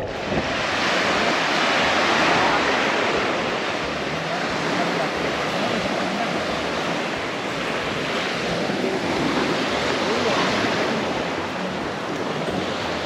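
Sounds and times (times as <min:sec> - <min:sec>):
faint voices: 0:00.0 - 0:13.0
sea surf washing onto beach: 0:00.0 - 0:13.0.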